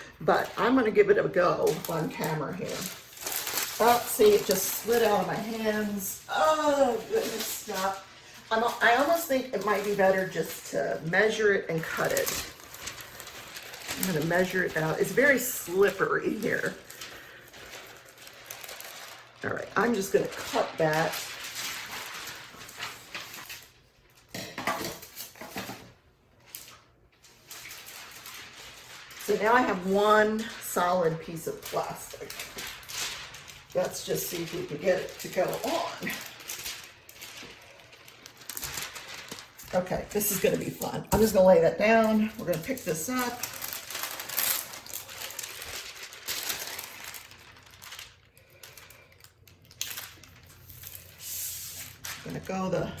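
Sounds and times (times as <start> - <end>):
plastic sheet crinkling: 0.0 - 53.0.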